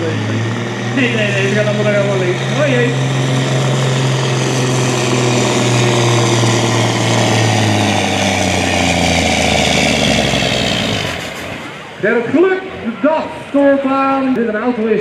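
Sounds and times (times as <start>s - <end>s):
diesel truck engine under load: 0.0s - 14.4s.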